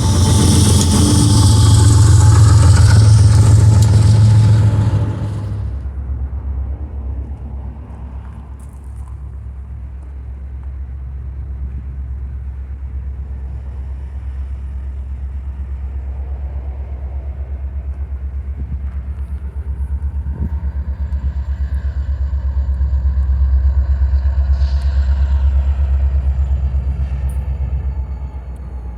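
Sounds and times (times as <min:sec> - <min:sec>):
diesel train rumbling past: 0:00.0 - 0:28.9.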